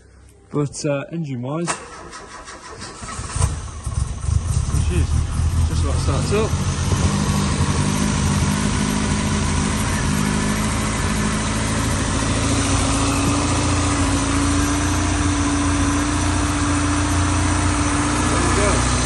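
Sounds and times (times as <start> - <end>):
car engine idling: 1.9 - 19.0.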